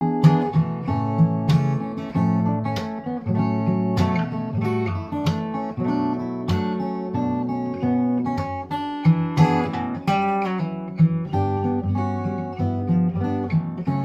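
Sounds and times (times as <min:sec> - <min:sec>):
fingerstyle acoustic guitar: 0:00.0 - 0:14.0.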